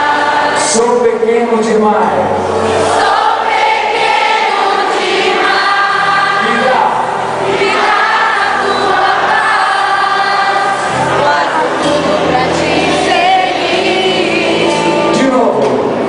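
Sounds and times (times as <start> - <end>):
group singing worship song: 0.0 - 1.3, 2.4 - 16.0
band accompaniment: 0.0 - 16.0.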